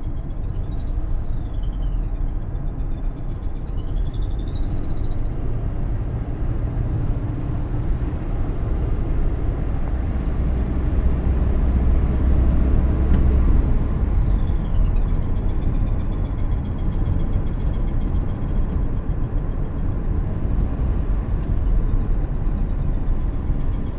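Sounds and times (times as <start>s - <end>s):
van engine rumble: 0.0s - 23.9s.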